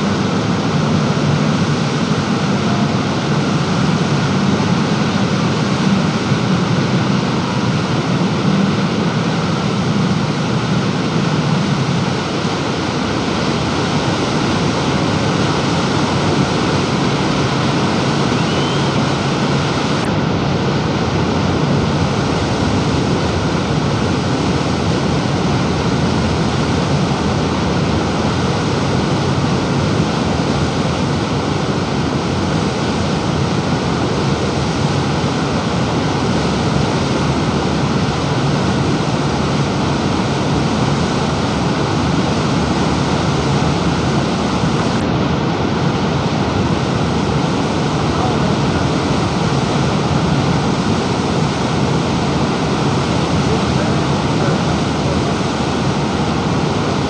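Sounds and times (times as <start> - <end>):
water roaring: 0.0 - 57.0.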